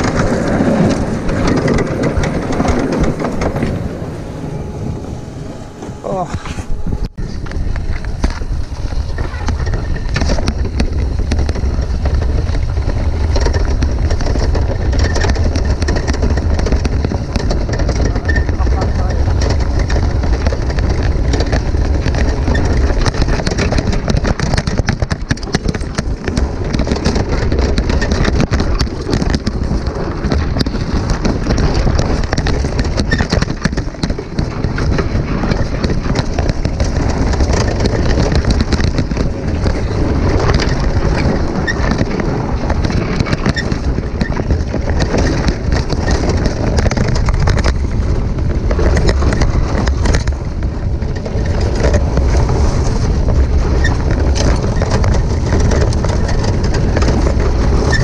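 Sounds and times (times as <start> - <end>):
gravel crunching under wheels: 0.0 - 58.0
kart rattling: 0.0 - 58.0
wind buffeting microphone: 0.0 - 58.0.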